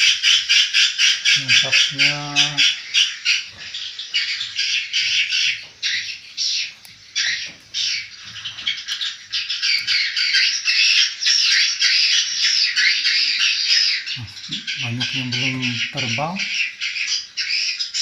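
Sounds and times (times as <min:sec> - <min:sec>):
swiftlets twittering: 0:00.0 - 0:11.5, 0:14.0 - 0:18.0.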